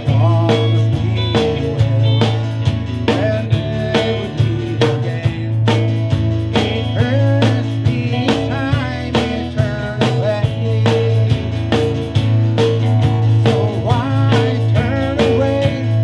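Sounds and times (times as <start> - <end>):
man singing into microphone: 0.0 - 11.7, 13.4 - 16.0
bass line: 0.0 - 16.0
steady drum beat: 0.0 - 16.0
strummed acoustic guitar: 0.0 - 16.0.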